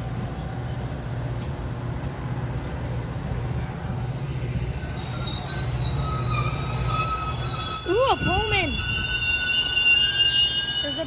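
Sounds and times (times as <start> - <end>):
steel wheels squealing on rails: 0.0 - 11.0
train diesel rumble: 0.0 - 11.0.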